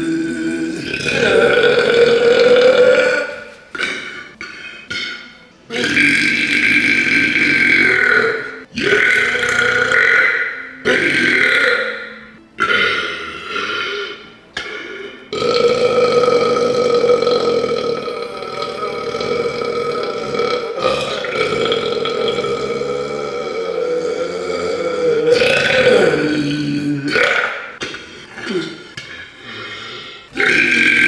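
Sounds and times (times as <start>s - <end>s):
person belching loudly: 0.0s - 29.1s, 30.3s - 31.0s.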